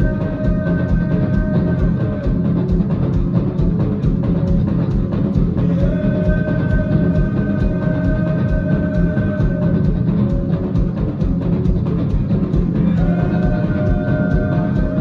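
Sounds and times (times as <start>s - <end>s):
fast drum beat: 0.0s - 15.0s
live band playing: 0.0s - 15.0s.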